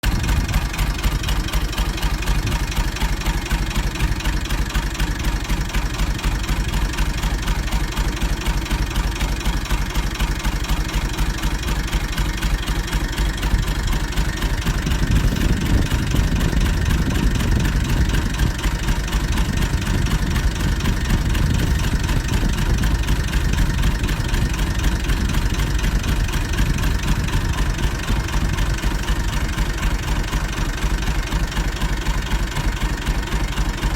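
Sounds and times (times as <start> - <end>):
diesel tractor engine idling: 0.0 - 33.9.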